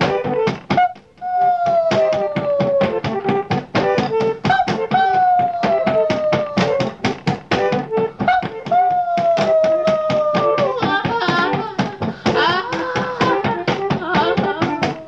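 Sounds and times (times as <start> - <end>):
fast percussive beat: 0.0 - 1.0, 1.8 - 15.0.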